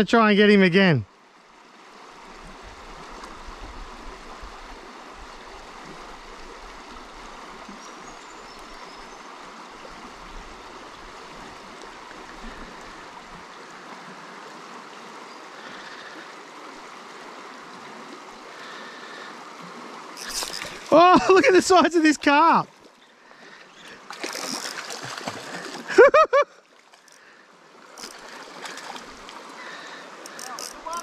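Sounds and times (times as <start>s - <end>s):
river water flowing over rocks: 1.1s - 31.0s.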